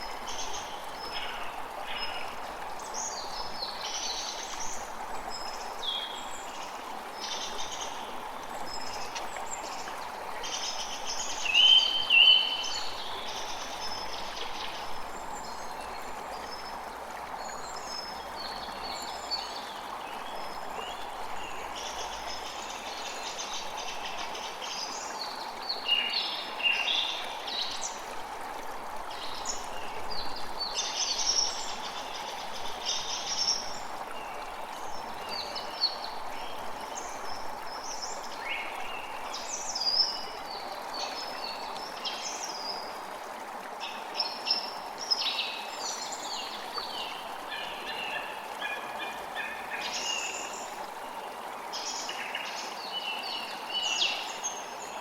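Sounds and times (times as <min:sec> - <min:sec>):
flowing water rushing: 0:00.0 - 0:55.0.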